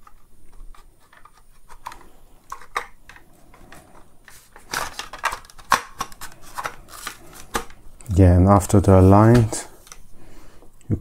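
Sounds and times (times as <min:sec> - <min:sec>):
plastic parts clicking and scraping: 0:00.0 - 0:10.1.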